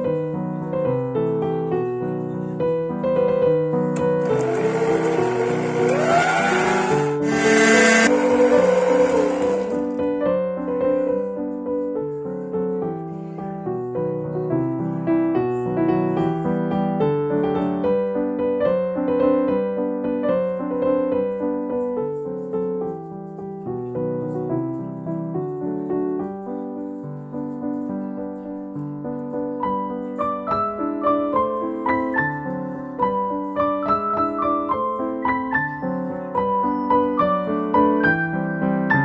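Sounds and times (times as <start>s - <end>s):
gentle piano music: 0.0s - 6.4s, 8.0s - 39.0s.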